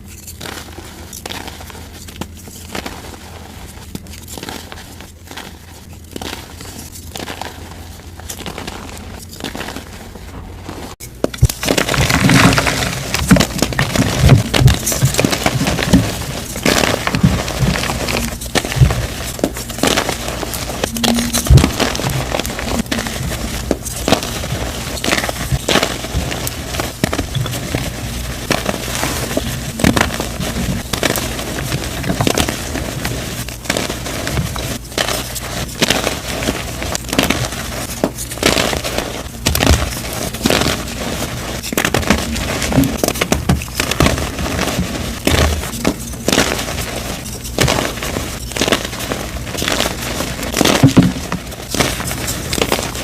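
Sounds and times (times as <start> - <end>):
chalk being crushed: 0.0 - 53.0.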